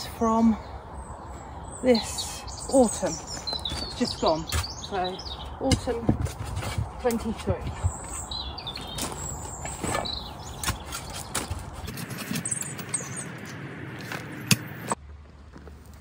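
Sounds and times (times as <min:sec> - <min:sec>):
small birds chirping: 0:00.0 - 0:15.0
compost digging and rustling: 0:02.0 - 0:16.0.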